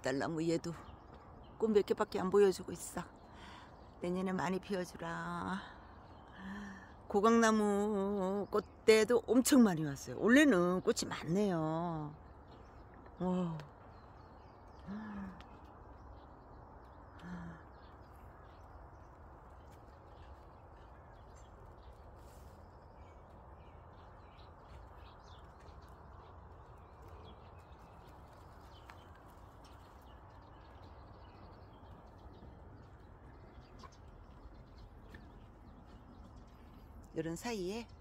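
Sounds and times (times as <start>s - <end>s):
low background hum: 0.0s - 38.0s.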